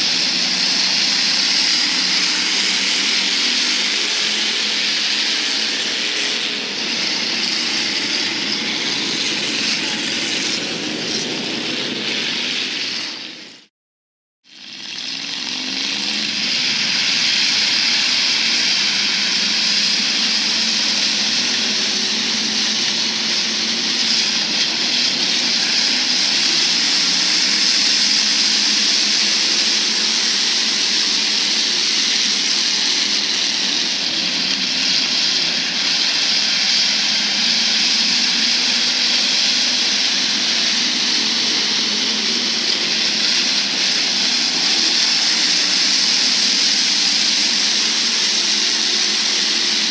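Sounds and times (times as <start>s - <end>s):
race car engines roaring: 0.0s - 13.7s, 14.5s - 49.9s.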